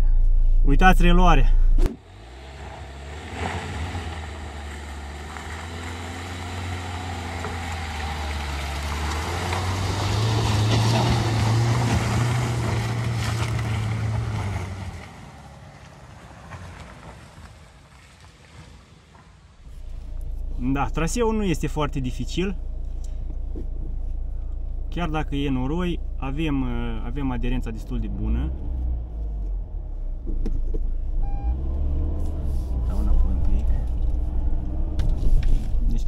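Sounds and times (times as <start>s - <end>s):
diesel engine pulling uphill: 0.0s - 36.0s.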